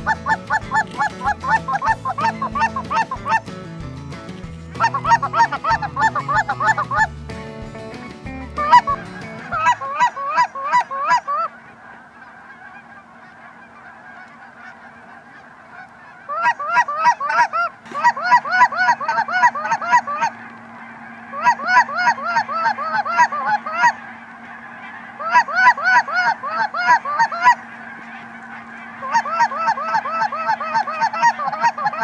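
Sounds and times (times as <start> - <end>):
geese honking in flight: 0.0 - 32.0.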